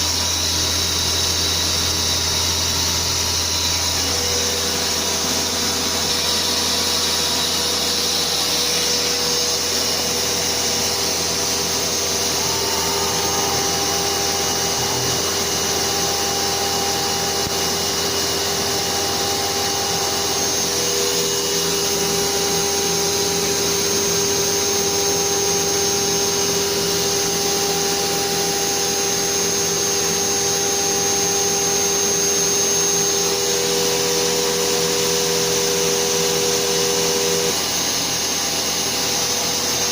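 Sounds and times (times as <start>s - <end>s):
router spindle whining: 0.0s - 39.9s
vacuum running: 0.0s - 39.9s.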